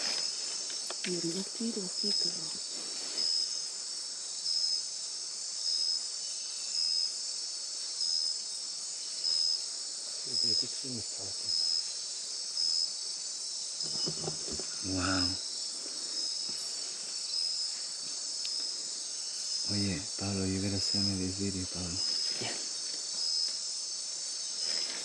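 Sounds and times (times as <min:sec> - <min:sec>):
high-pitched insect buzzing: 0:00.0 - 0:25.0
short insect chirp: 0:00.0 - 0:25.0.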